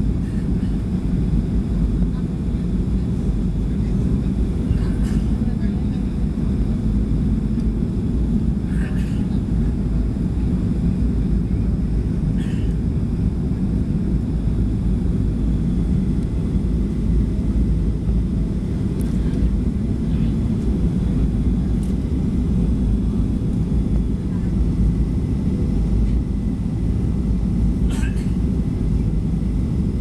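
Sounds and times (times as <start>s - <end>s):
airplane cabin rumble: 0.0s - 30.0s
faint engine tones: 1.6s - 30.0s.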